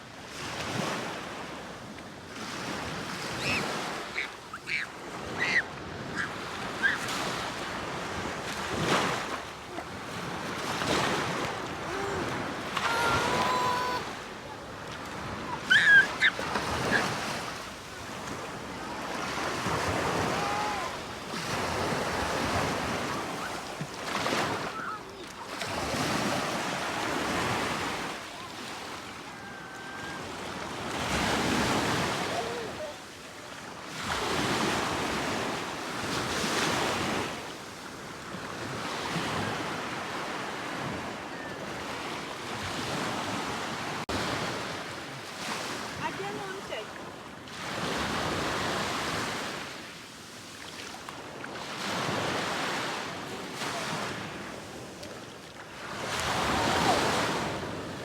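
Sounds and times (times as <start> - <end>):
waves washing onto shore: 0.0 - 58.0.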